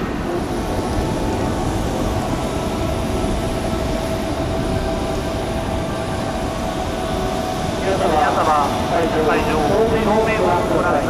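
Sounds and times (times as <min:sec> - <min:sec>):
faint steady whine: 0:00.0 - 0:11.0
jet engine noise in flight: 0:00.0 - 0:11.0.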